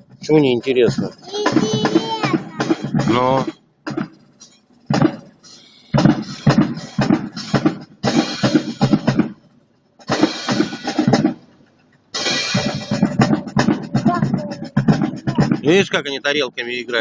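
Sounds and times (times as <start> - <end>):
cymbals clashing: 0.0 - 11.6, 12.2 - 15.9
drum ensemble playing: 0.0 - 17.0.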